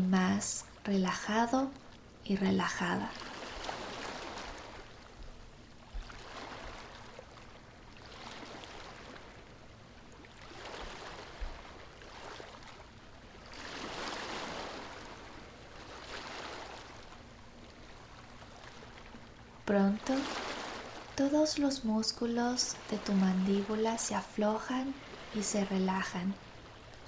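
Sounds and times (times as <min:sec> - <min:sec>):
ocean surf washing on shore: 0:00.0 - 0:27.0.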